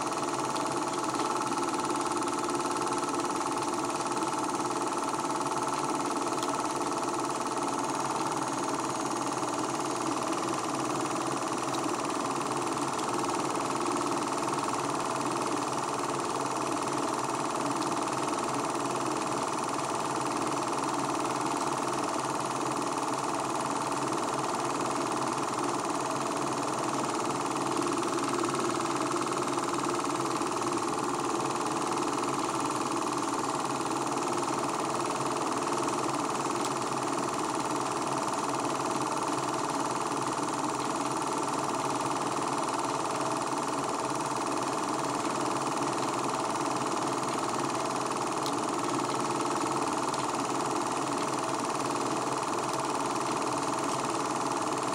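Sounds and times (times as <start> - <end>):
film projector whirring and clattering: 0.0 - 54.9.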